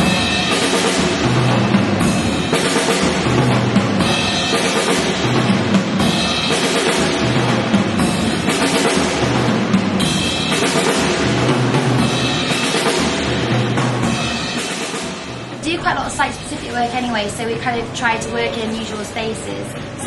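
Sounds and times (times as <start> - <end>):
drum kit beat: 0.0 - 20.0.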